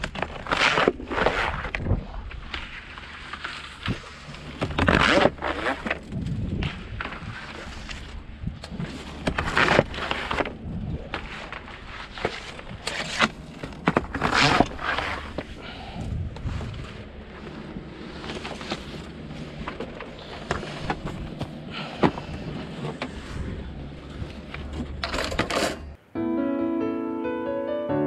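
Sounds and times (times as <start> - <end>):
low engine hum: 1.8 - 25.2.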